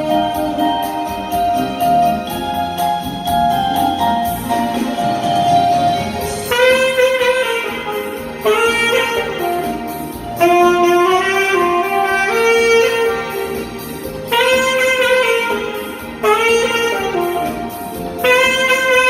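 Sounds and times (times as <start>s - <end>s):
slow solo melody: 0.0s - 19.0s
soft backing accompaniment: 0.0s - 19.0s.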